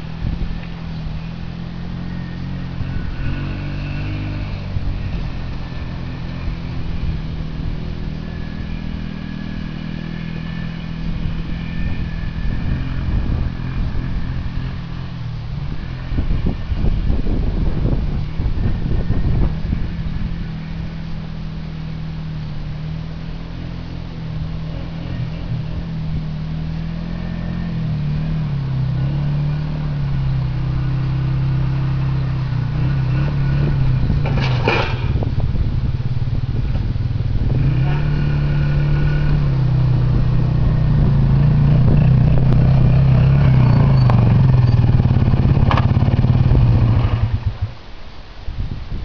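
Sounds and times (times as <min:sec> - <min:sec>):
atv engine running: 0:00.0 - 0:49.0
low uneven rumble: 0:00.0 - 0:49.0.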